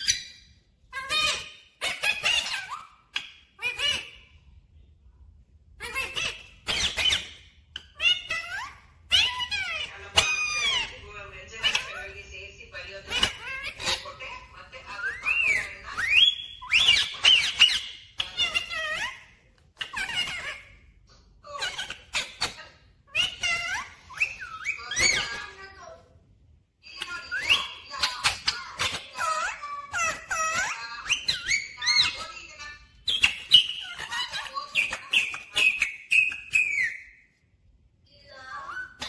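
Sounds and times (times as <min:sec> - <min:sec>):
parakeet high-pitched chatter: 0:00.0 - 0:04.6, 0:05.7 - 0:37.5, 0:38.2 - 0:39.0.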